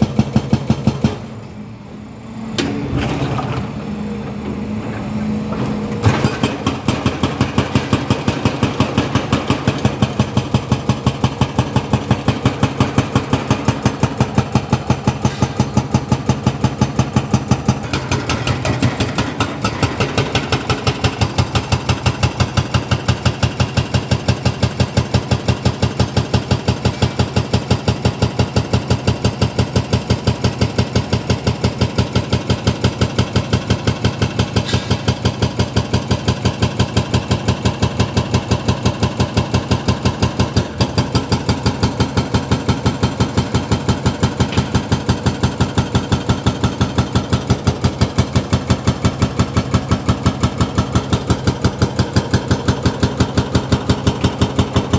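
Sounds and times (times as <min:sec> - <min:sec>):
hydraulic rock breaker hammering: 0:00.0 - 0:01.6, 0:02.5 - 0:54.9
diesel engine running: 0:00.0 - 0:54.9.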